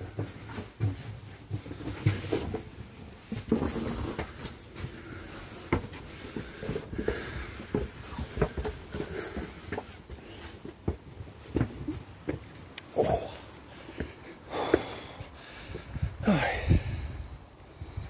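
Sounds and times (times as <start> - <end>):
footsteps on stone stairs: 0.0 - 17.0.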